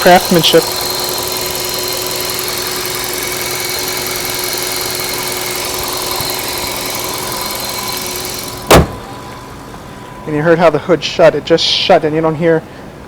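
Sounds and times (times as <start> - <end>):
car engine idling: 0.0 - 13.0
faint steady whine: 0.0 - 13.0.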